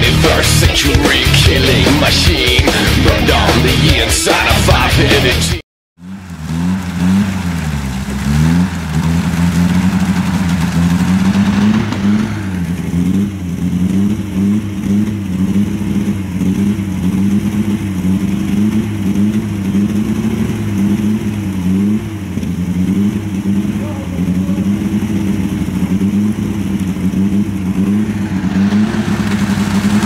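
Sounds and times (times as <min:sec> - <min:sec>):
off-road engine revving: 0:00.0 - 0:30.0.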